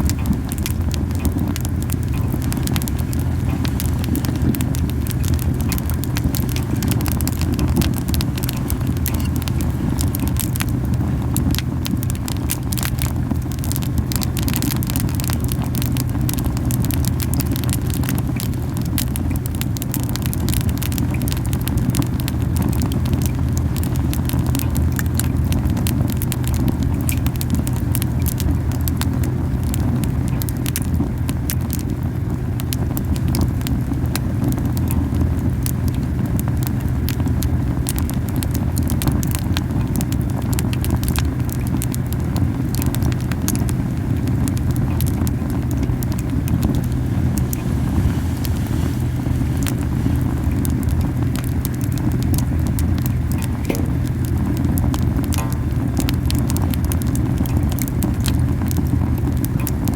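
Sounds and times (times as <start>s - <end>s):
burning wood crackling and popping: 0.0s - 59.9s
fire flames rumbling: 0.0s - 59.9s.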